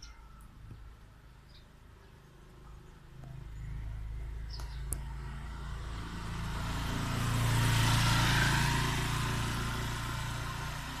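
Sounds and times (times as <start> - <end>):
low engine hum: 0.0 - 11.0
vehicle passing by: 2.1 - 11.0.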